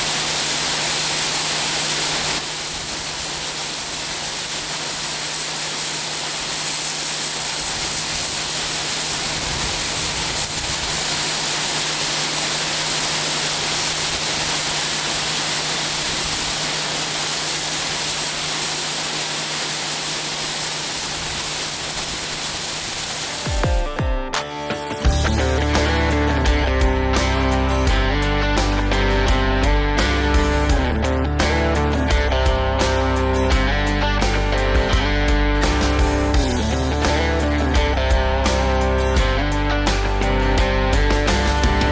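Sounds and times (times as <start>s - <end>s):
farm machinery engine hum: 0.0s - 23.7s, 25.1s - 41.9s.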